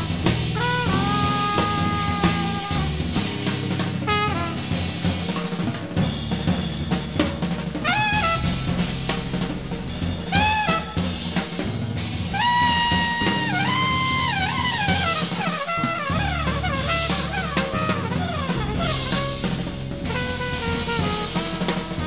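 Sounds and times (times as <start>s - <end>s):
trumpet: 0.0s - 5.8s, 7.7s - 11.7s, 12.3s - 22.0s
bass: 0.0s - 22.0s
drum kit: 0.0s - 22.0s.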